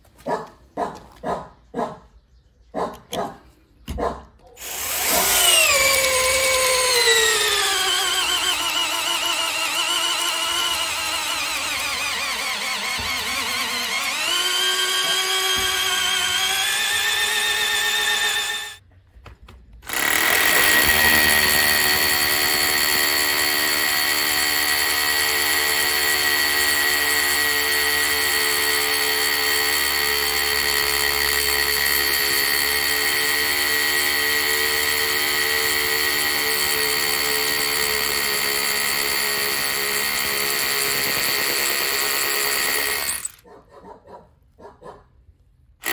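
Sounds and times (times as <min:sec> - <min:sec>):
drill boring through wood: 0:04.6 - 0:18.8, 0:19.8 - 0:43.4
hammer drill into brick: 0:04.6 - 0:18.8, 0:19.8 - 0:43.5.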